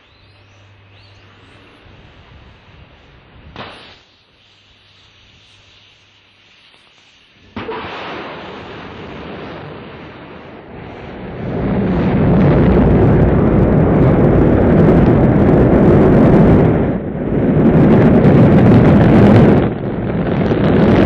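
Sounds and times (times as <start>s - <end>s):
rocket engines rumbling: 0.0s - 4.0s, 6.8s - 21.0s.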